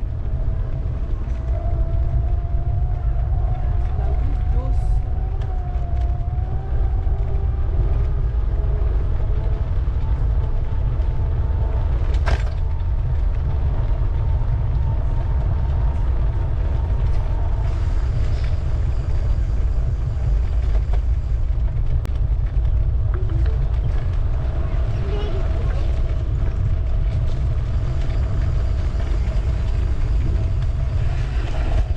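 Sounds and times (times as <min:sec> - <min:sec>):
bicycle creaks and rattles: 0:00.0 - 0:31.9
wind rumble on microphone: 0:00.0 - 0:31.9.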